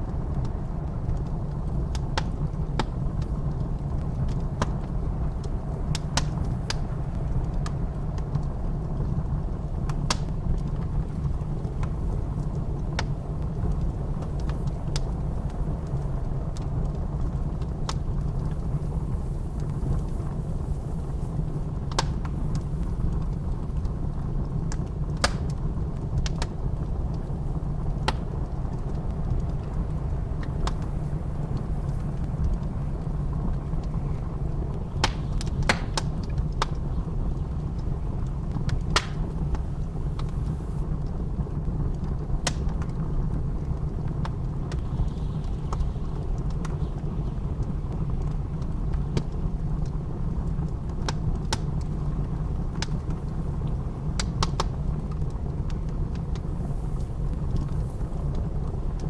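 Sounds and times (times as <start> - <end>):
blizzard wind rumble: 0.0 - 59.0
wood fire crackling: 0.0 - 59.0.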